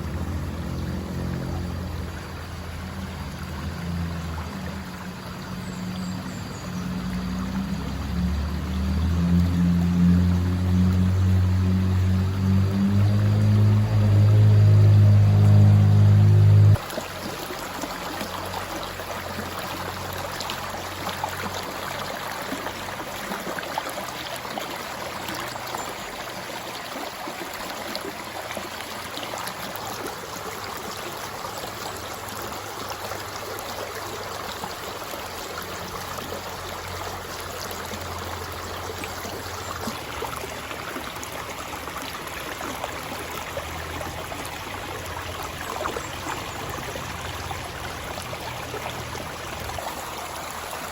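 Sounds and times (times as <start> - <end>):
river water flowing: 0.0 - 50.9
water splashes and gurgles: 0.0 - 50.9.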